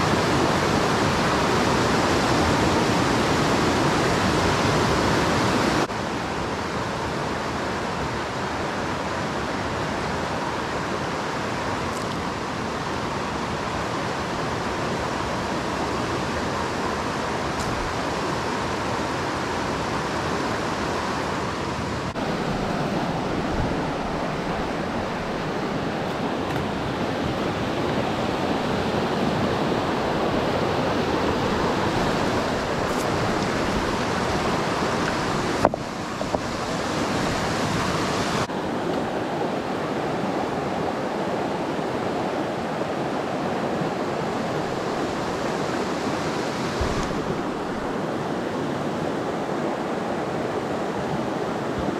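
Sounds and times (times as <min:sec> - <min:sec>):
river rushing over rocks: 0:00.0 - 0:51.9.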